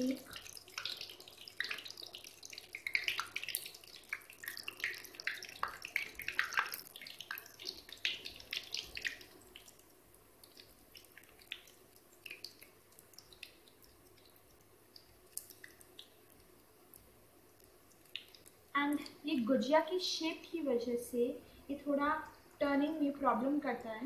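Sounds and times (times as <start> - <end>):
pastries sizzling in hot oil: 0.0 - 24.0.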